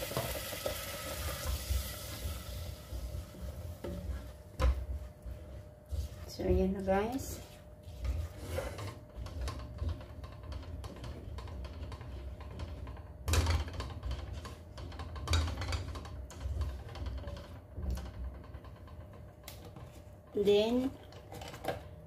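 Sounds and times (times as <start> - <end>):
steady low hum: 1.1 - 21.2.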